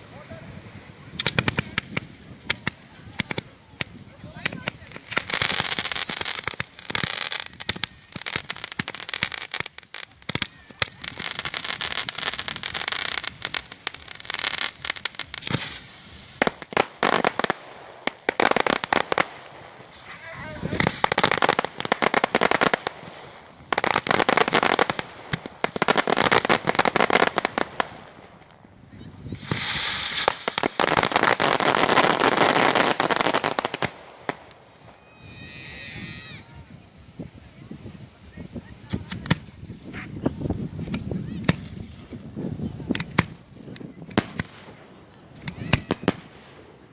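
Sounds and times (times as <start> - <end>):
fireworks crackling and popping: 0.0 - 46.9
fireworks bangs: 1.0 - 36.2, 38.5 - 46.9.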